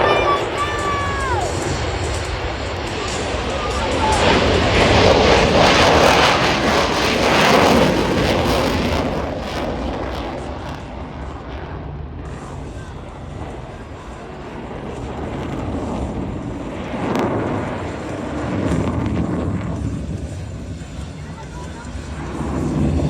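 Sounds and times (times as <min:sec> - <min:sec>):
jet engines passing: 0:00.0 - 0:23.0.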